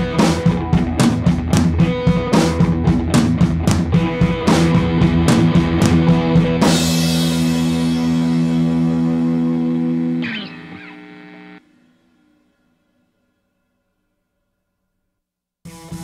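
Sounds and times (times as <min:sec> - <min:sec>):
distorted electric guitar: 0:00.0 - 0:12.6, 0:15.7 - 0:16.0
rock drums: 0:00.0 - 0:12.6, 0:15.6 - 0:16.0.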